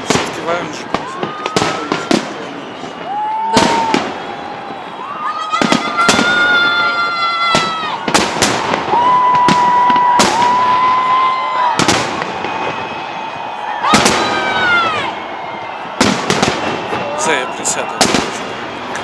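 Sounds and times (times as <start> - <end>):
fireworks bangs: 0.0 - 19.0
fireworks high whistles: 0.0 - 19.0.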